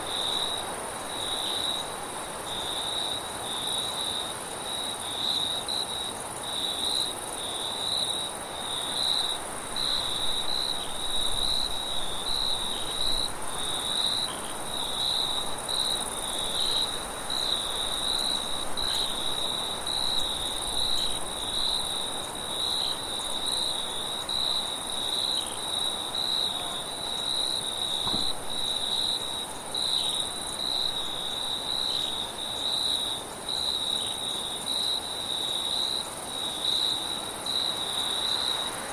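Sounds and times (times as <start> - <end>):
crickets chirping: 0.0 - 38.9
night wind hiss: 0.0 - 38.9.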